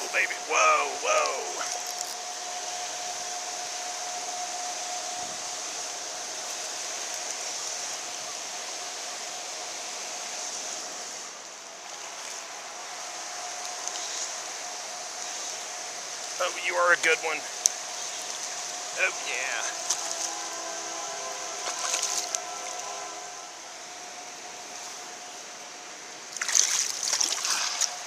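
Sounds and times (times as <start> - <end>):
faint steady tone: 0.0 - 28.0
river water rushing: 0.0 - 28.0.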